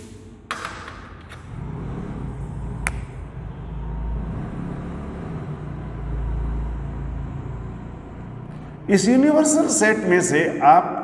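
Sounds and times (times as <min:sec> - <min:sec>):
road traffic rumble: 0:01.2 - 0:10.2.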